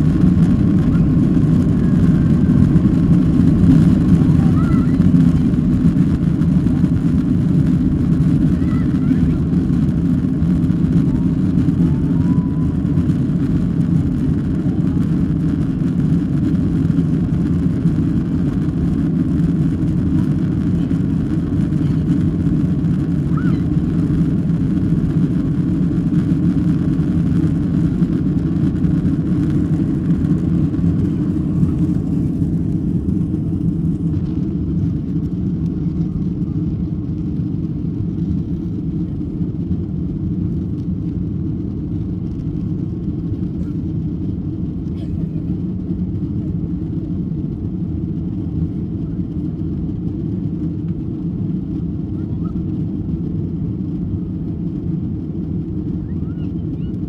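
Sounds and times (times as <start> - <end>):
jet engine roar in cabin: 0.0 - 57.0.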